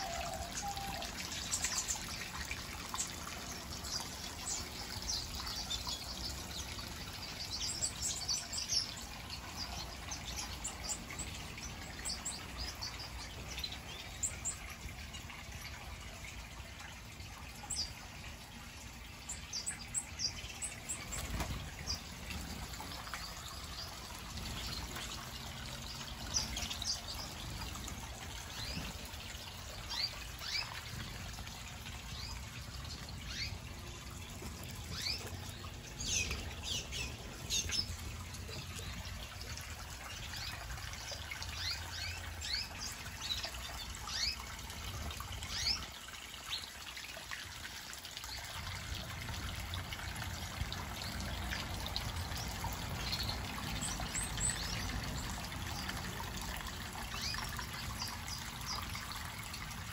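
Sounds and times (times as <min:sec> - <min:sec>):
small birds chirping: 0:00.0 - 0:16.2, 0:17.1 - 0:46.8, 0:50.2 - 0:59.9
water trickling down waterfall: 0:00.0 - 0:59.9.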